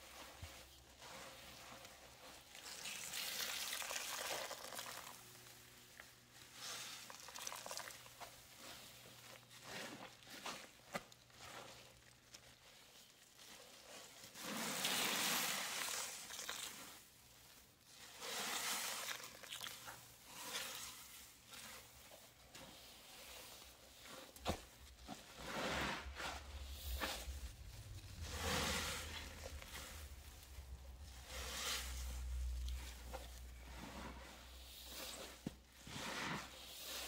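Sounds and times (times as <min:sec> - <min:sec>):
hands squeezing damp paste: 0:00.0 - 0:37.0.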